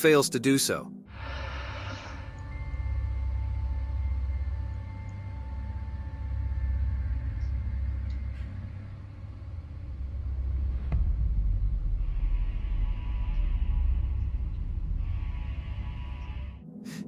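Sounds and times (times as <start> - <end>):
low rumble: 1.1 - 16.7.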